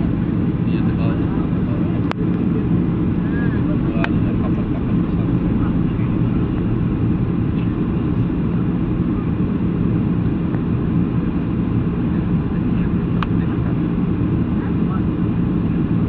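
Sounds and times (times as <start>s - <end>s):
aircraft drone: 0.0s - 16.0s.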